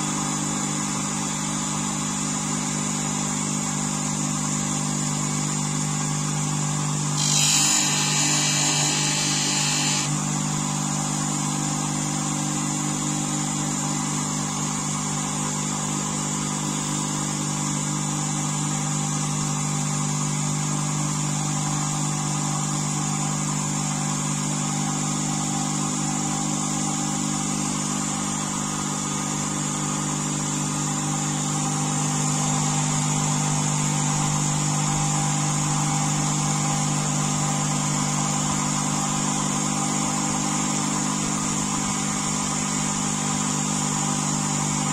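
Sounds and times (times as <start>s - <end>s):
bench grinder motor running: 0.2s - 44.9s.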